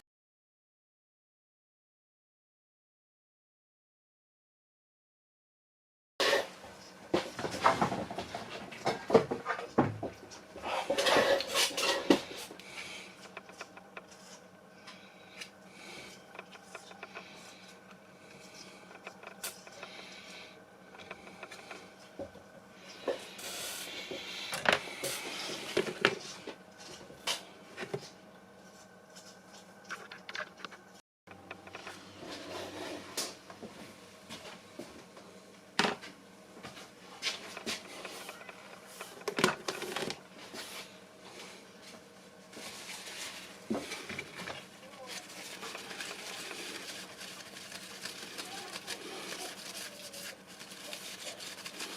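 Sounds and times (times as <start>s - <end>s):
faint steady hum: 6.3s - 51.9s.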